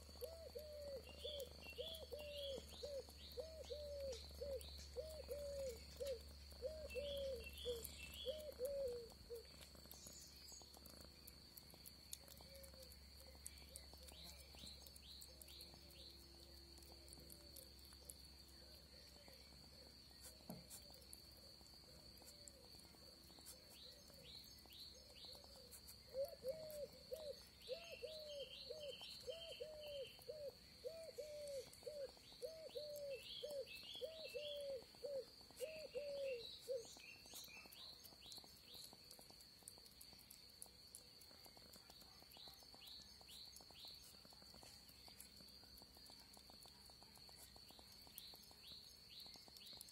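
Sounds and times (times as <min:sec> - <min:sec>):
insect trill: 0:00.0 - 0:49.9
small birds chirping: 0:00.0 - 0:49.9.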